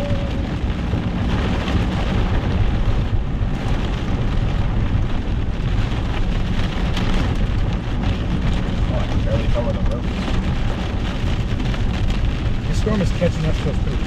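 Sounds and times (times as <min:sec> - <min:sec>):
heavy rain on car: 0:00.0 - 0:14.0
low road rumble: 0:00.0 - 0:14.0.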